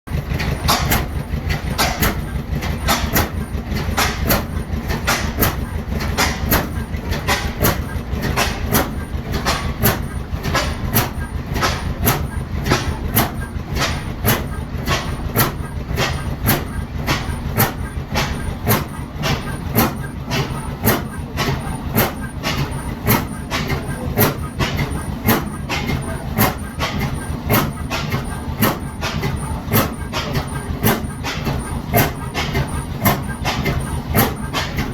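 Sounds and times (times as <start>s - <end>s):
gas engine knocking rhythmically: 0.1s - 34.9s
low engine rumble: 0.1s - 34.9s.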